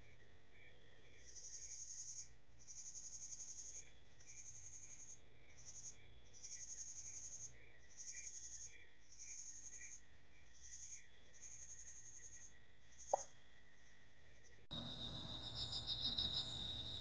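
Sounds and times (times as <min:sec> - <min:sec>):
soft low cricket chirps: 0:00.0 - 0:17.0
high-pitched cricket trill: 0:01.2 - 0:13.4, 0:14.4 - 0:17.0.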